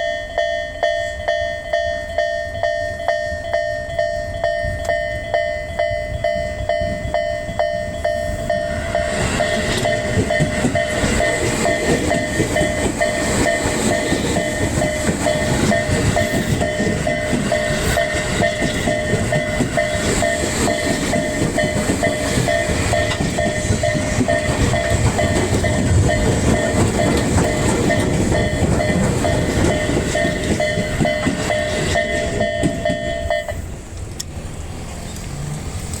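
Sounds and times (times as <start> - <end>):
level-crossing bells dinging: 0.0 - 33.7
train passing slowly: 0.0 - 36.0.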